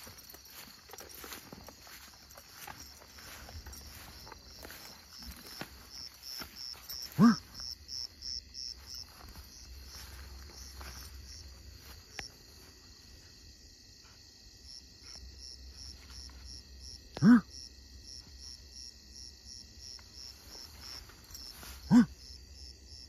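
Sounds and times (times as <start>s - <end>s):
faint rustling through grass: 0.0s - 16.8s, 19.6s - 22.9s
crickets chirping: 0.0s - 23.0s.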